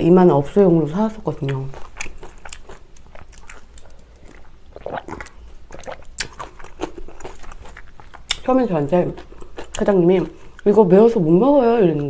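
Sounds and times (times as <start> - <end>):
chewing and wet mouth sounds: 1.2 - 12.0.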